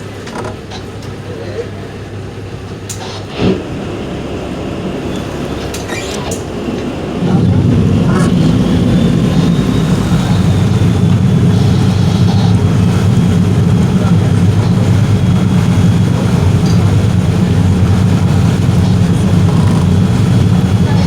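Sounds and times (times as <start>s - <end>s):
motorboat engine rumbling: 0.0s - 21.0s.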